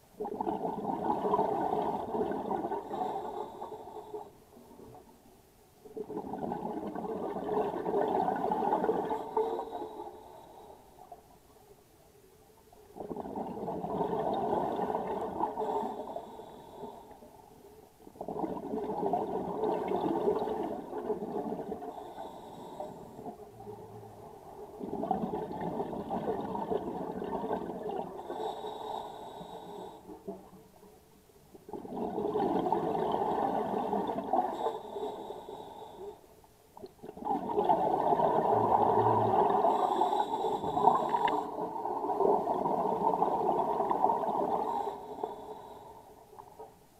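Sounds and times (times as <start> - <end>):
exhaled air bubbling underwater: 0.0 - 11.9, 12.6 - 46.9.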